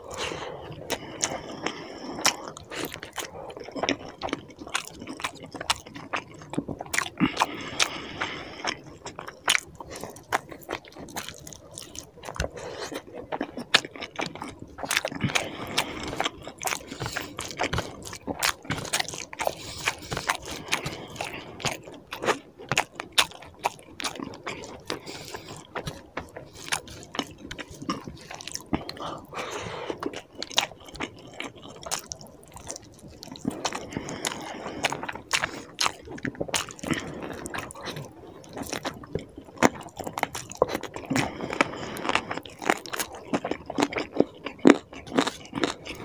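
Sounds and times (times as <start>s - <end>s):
chewing and wet mouth noises: 0.0s - 46.0s.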